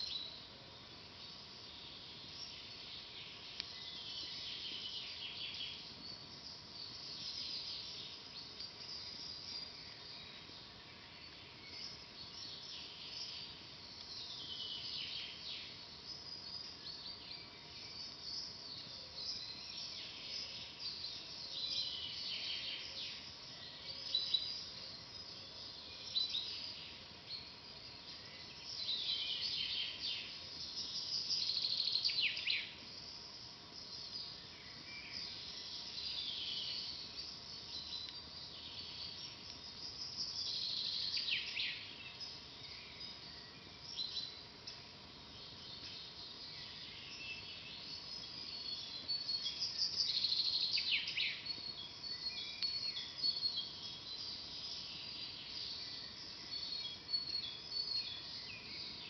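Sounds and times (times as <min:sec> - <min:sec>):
birds singing: 0:01.2 - 0:59.0.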